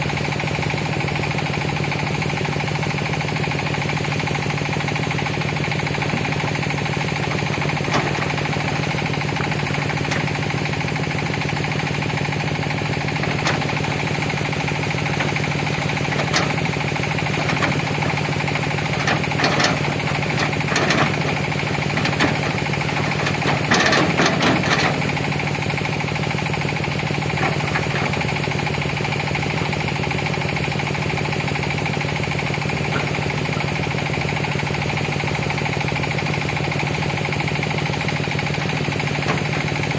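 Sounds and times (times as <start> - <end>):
excavator diesel engine running: 0.0 - 39.9
knocking and rattling: 5.2 - 39.9.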